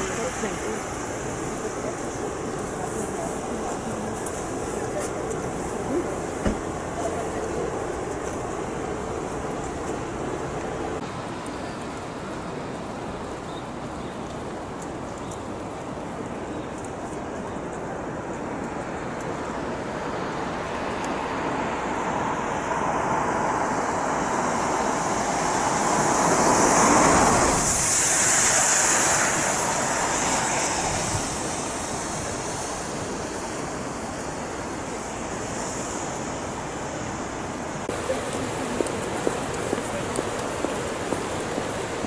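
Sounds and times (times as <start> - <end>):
tyres hissing on wet road: 0.0 - 42.0.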